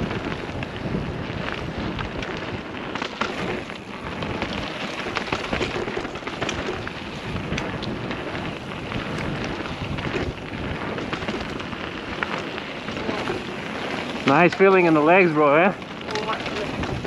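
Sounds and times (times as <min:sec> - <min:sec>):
bike rattles and clicks: 0:00.0 - 0:17.0
bike tyres crunching gravel: 0:00.0 - 0:17.0.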